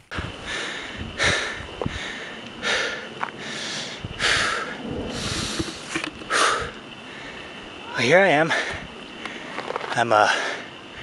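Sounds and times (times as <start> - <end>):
man breathing hard: 0.1 - 7.8, 8.5 - 9.7.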